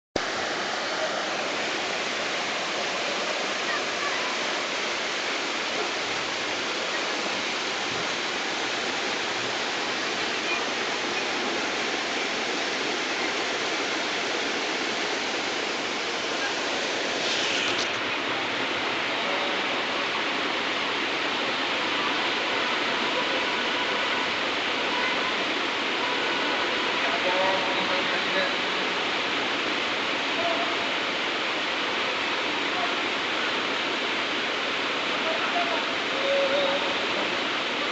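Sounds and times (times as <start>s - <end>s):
floodwater rushing: 0.2s - 37.9s.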